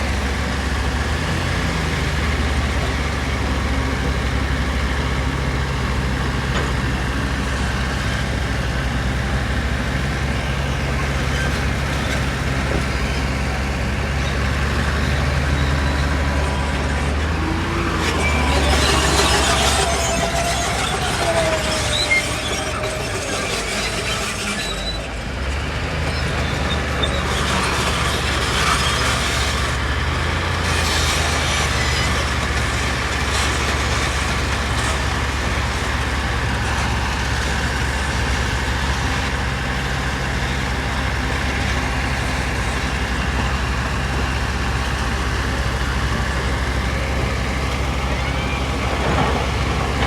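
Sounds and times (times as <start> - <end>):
diesel machinery engine drone: 0.0 - 50.0.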